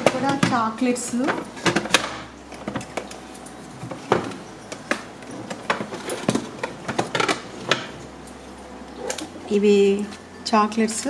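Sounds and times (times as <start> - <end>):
packets and boxes clicking and knocking: 0.0 - 9.4.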